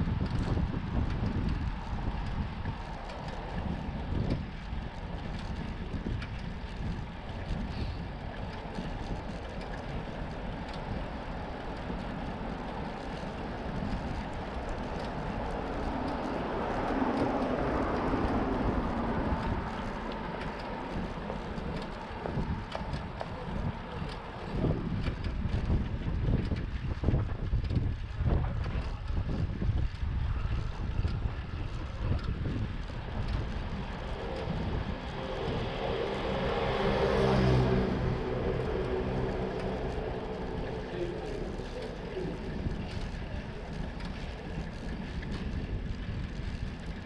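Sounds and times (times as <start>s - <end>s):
bicycle ride rumble: 0.0s - 47.0s
wind buffeting microphone: 0.0s - 47.0s.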